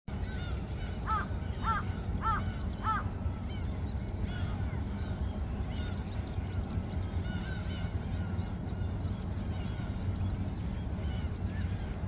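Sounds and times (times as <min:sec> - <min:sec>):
gulls squawking: 0:00.1 - 0:12.0
loud gull calls: 0:00.1 - 0:12.0.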